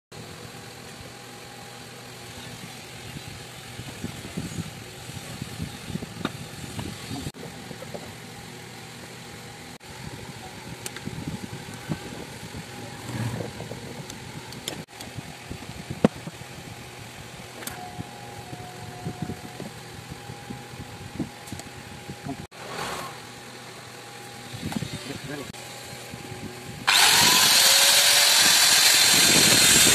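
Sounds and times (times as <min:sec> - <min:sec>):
steady engine-like hum: 0:00.2 - 0:29.9.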